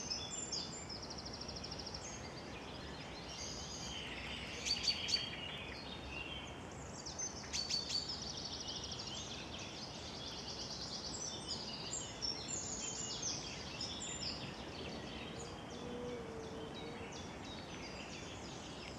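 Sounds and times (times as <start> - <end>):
songbirds singing: 0.0 - 18.9.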